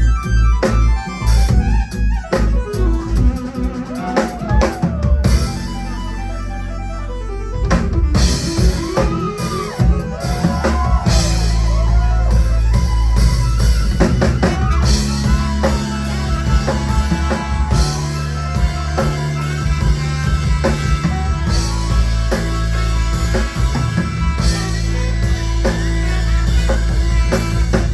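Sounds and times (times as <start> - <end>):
bass notes: 0.0 - 27.9
drum kit: 0.0 - 27.9
sliding lead guitar line: 0.0 - 27.9.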